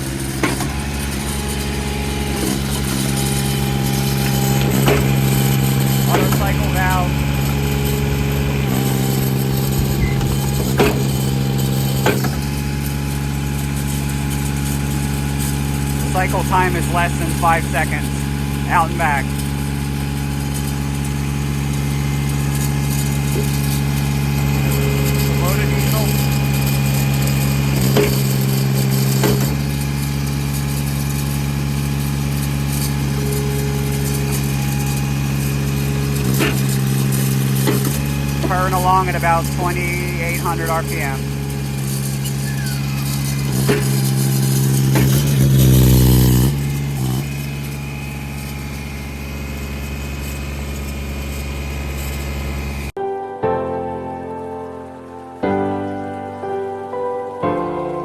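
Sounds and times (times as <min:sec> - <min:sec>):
hydraulic ram moving: 0:00.0 - 0:52.9
log splitter diesel engine: 0:00.0 - 0:53.0.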